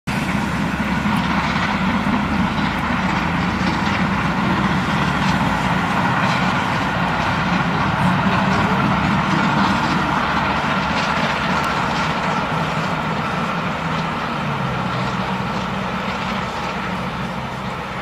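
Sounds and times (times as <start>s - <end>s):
steam locomotive hauling train: 0.1s - 18.0s.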